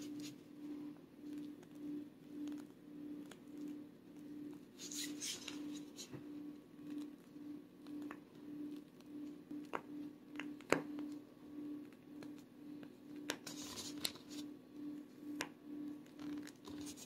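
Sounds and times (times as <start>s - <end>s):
low pulsing hum: 0.0s - 17.0s.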